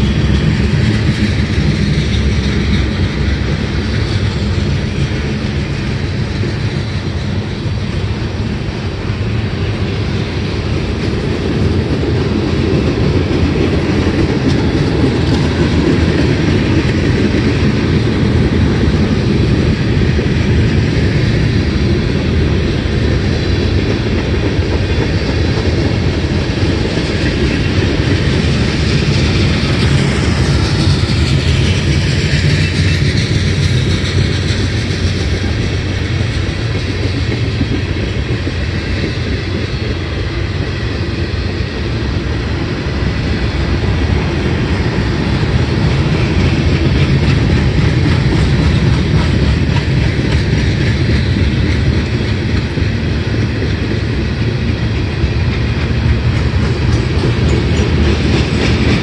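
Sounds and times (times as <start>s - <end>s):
clickety-clack over rail joints: 0.0s - 59.0s
rumble of steel wheels on rails: 0.0s - 59.0s.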